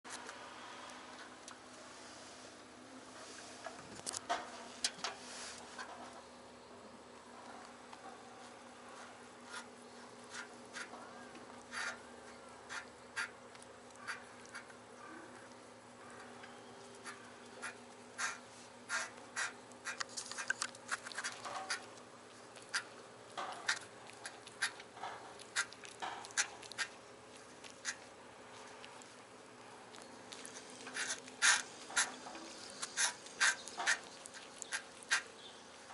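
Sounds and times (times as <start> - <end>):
faint steady hum: 0.1 - 35.9.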